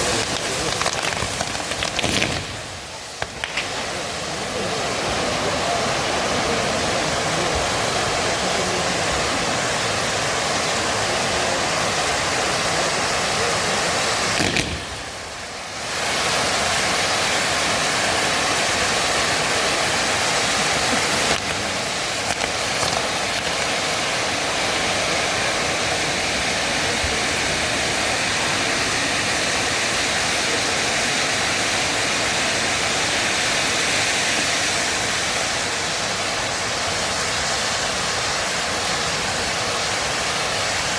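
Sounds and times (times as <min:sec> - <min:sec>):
fireworks hissing and crackling: 0:00.0 - 0:40.9.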